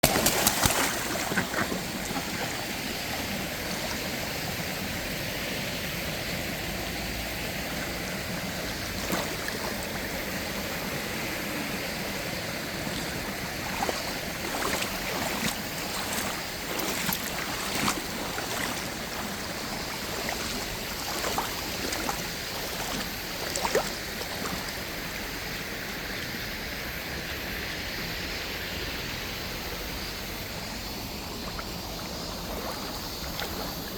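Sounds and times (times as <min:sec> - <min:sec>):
small water splashes: 0:00.0 - 0:05.1, 0:05.8 - 0:26.2, 0:29.9 - 0:33.9
shallow stream flowing: 0:00.0 - 0:33.9.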